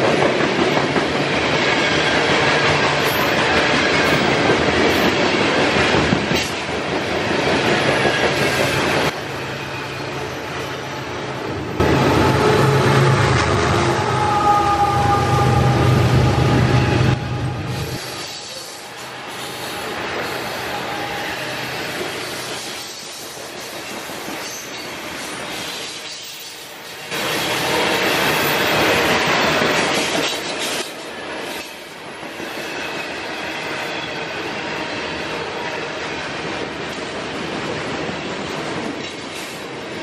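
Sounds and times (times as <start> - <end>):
wheels rumbling on rail: 0.0 - 40.0.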